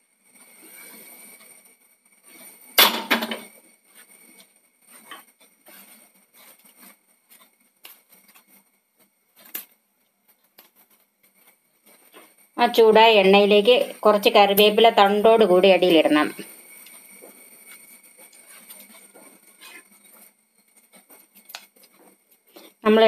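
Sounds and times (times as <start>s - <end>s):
oil crackling in pot: 0.0s - 23.0s.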